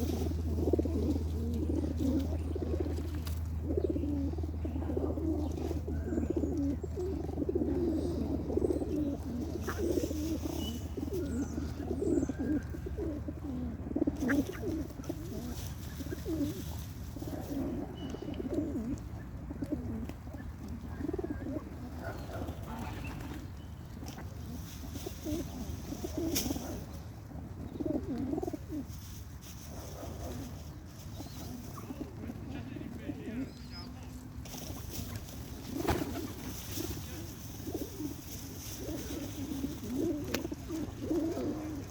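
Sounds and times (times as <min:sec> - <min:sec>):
birds calling: 0:00.0 - 0:29.0, 0:30.3 - 0:41.9.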